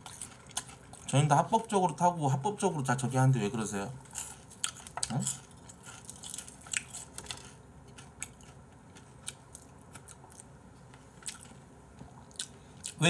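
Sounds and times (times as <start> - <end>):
chewing fried chicken: 0.0 - 3.0, 4.0 - 13.0.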